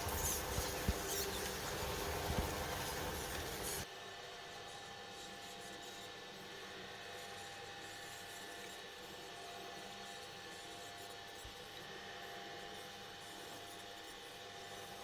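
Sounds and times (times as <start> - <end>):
faint hum with hiss: 0.0 - 15.0.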